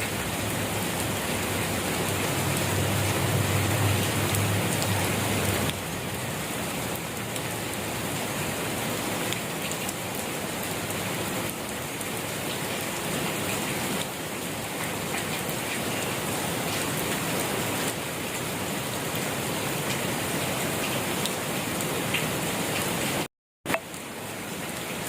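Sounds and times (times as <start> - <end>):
gentle rain falling: 0.0 - 25.0.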